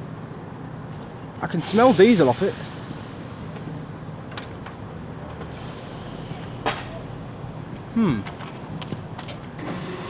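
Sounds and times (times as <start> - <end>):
diesel locomotive idling hum: 0.0 - 10.0.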